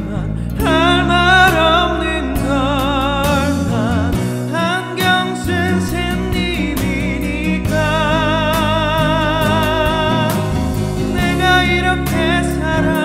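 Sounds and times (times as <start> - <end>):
instrumental backing track: 0.0 - 13.0
man singing with vibrato: 0.0 - 13.0.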